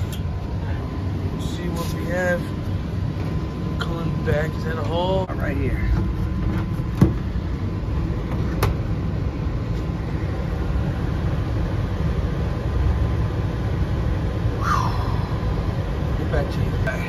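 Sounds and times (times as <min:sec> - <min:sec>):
furnace blower rumbling: 0:00.0 - 0:17.0.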